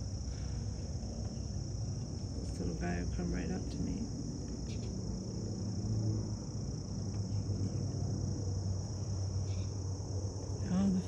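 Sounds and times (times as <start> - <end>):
insects chorus: 0.0 - 11.0
low background rumble: 0.0 - 11.0.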